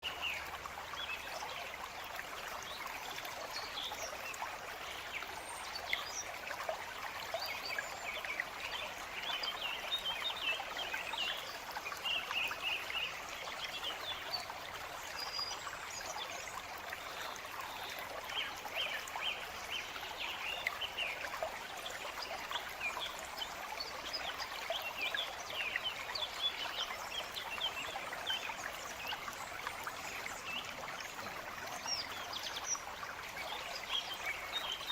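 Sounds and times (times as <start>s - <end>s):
stream trickling and splashing: 0.0s - 34.9s.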